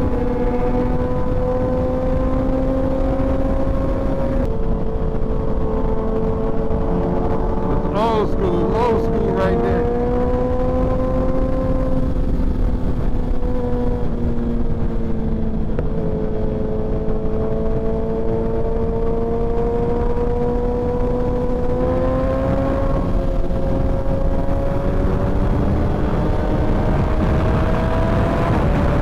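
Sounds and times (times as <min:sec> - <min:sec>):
motorcycle engine cruising: 0:00.0 - 0:29.0
wind rumble: 0:00.0 - 0:29.0.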